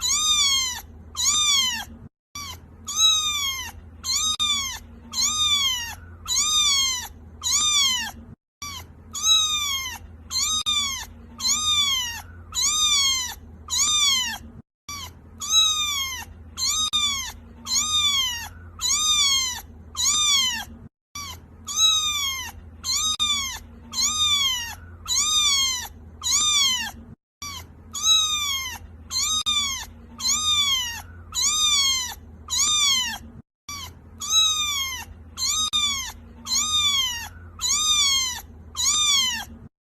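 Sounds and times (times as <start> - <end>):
kitten meowing: 0.0 - 39.7.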